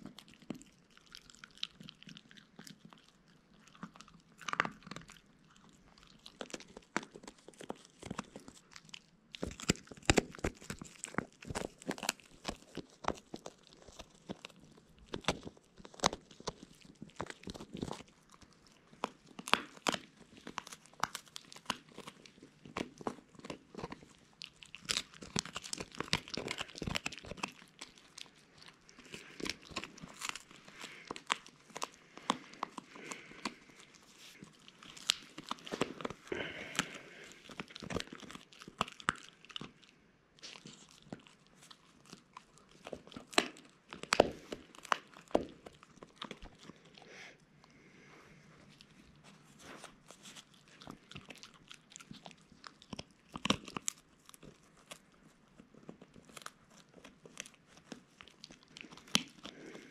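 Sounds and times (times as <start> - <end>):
puppy gnawing on chew stick: 0.0 - 59.9.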